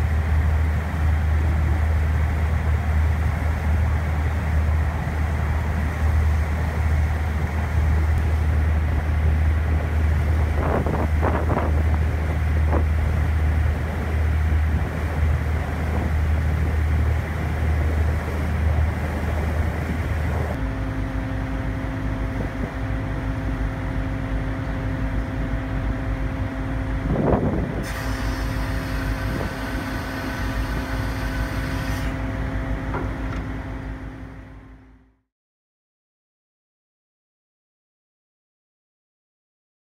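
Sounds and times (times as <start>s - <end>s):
water noise: 0.0s - 34.8s
boat engine droning: 0.0s - 35.3s
wind: 0.0s - 35.3s.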